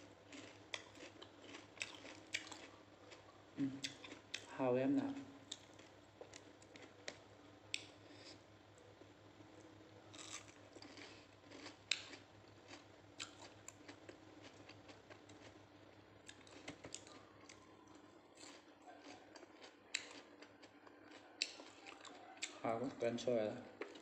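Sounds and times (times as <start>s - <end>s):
crunchy chewing: 0.2s - 4.5s, 5.1s - 8.4s, 9.0s - 23.0s, 23.7s - 24.0s.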